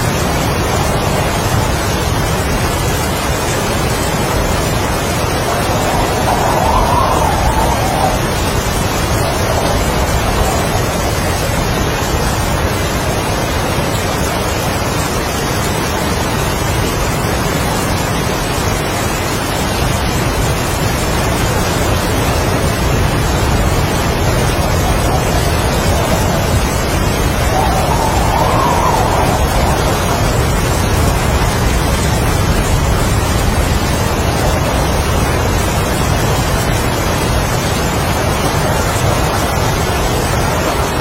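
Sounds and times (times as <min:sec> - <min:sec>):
heavy rain: 0:00.0 - 0:41.0
strong wind: 0:00.0 - 0:41.0.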